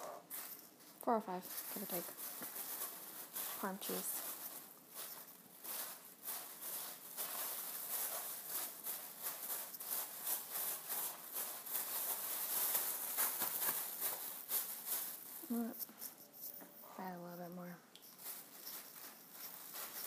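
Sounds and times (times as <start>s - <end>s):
dry breadcrumbs rustling: 0.2s - 16.3s, 17.0s - 20.0s.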